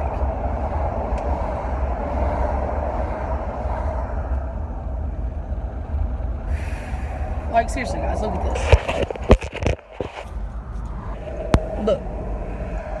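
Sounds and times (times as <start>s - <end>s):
truck engine rumble and hum: 0.0s - 13.0s.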